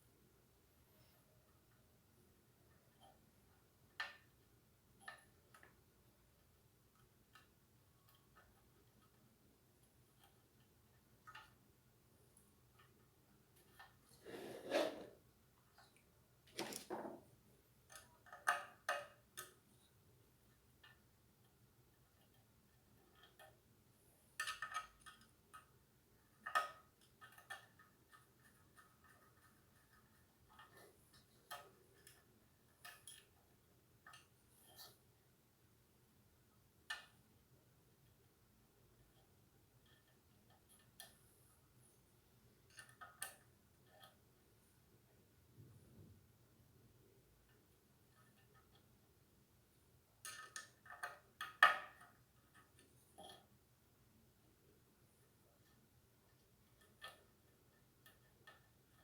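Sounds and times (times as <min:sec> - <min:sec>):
faint clicks and light taps: 0:00.9 - 0:14.1, 0:15.6 - 0:35.2, 0:36.7 - 0:53.8, 0:54.7 - 0:59.0.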